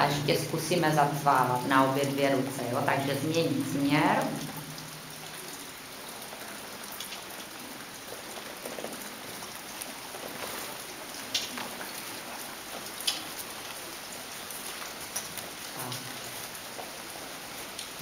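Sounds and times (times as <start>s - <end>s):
rain patter on a roof: 0.0s - 18.0s.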